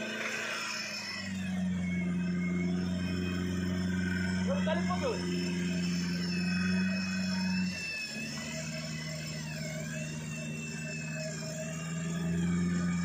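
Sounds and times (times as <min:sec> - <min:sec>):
vehicle engine running: 0:00.0 - 0:13.0
winch motor whining: 0:00.0 - 0:13.0.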